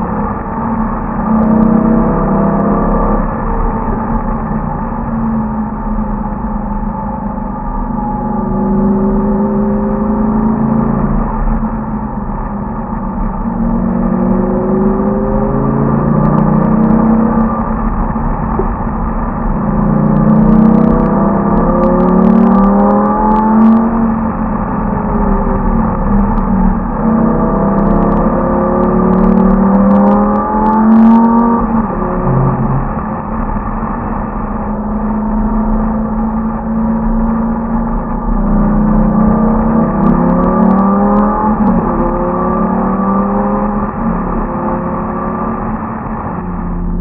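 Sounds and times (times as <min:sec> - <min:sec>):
sports car engine accelerating: 0:00.0 - 0:47.0.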